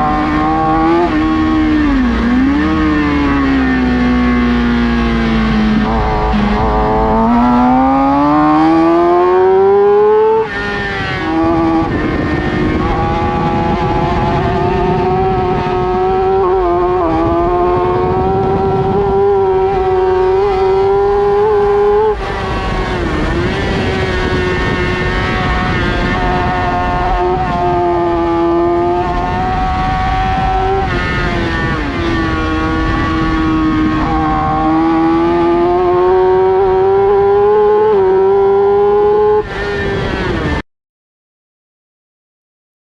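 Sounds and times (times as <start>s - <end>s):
motorcycle engine revving: 0.0s - 40.6s.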